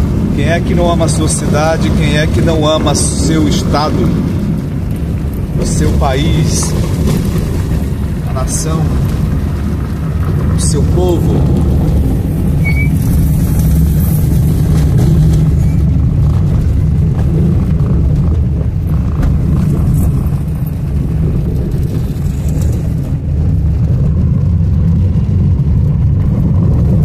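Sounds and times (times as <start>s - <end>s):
car engine: 0.0s - 27.0s
tyre noise on dirt road: 0.0s - 27.0s.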